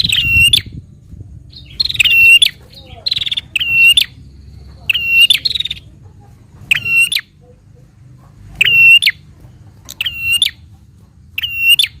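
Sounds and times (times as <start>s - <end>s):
bird calling: 0.0s - 0.8s, 1.5s - 12.0s.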